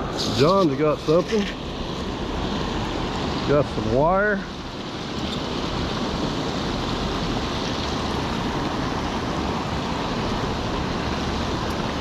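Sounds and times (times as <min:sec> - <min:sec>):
water pouring over a dam: 0:00.0 - 0:12.0.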